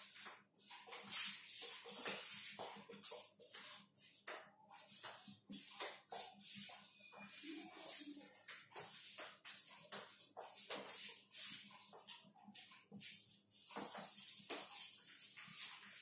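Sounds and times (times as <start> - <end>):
marker scratching on whiteboard: 0.0 - 16.0.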